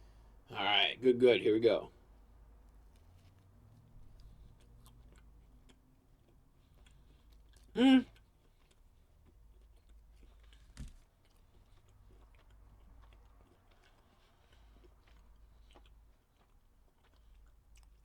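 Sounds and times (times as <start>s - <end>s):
chewing food: 2.0s - 18.0s.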